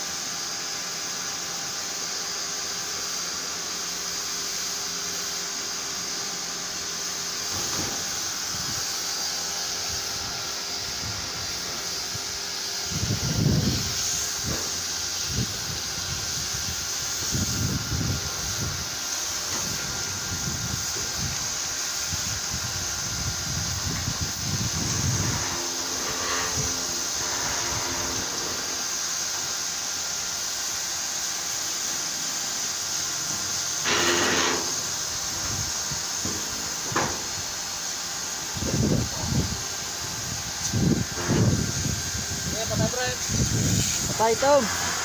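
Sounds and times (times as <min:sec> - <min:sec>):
pressure washer spraying: 0:00.0 - 0:45.0.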